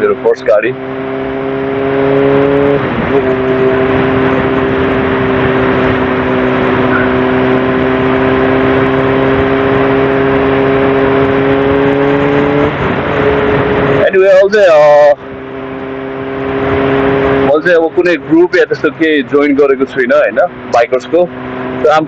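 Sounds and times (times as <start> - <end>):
gear change: 0.0 - 22.0
wind and road noise: 0.0 - 22.0.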